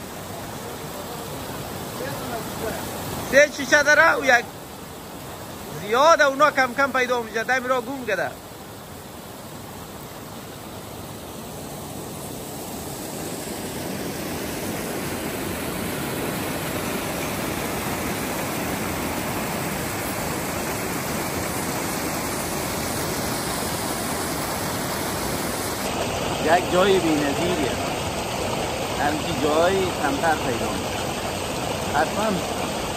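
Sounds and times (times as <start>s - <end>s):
water rushing down rocky cascade: 0.0s - 32.9s.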